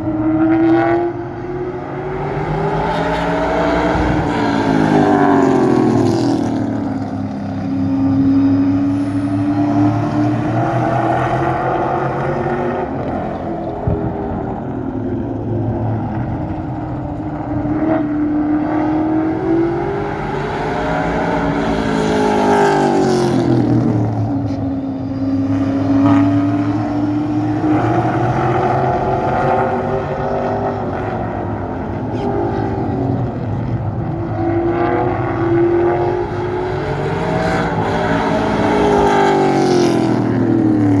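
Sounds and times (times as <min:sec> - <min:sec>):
vehicle engine running: 0:01.2 - 0:34.4.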